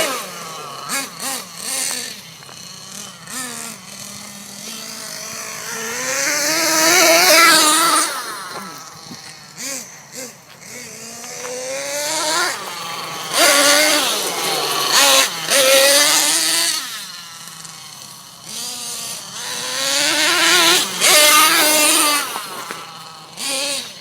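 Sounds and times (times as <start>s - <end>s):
nitro engine revving: 0.0s - 24.0s.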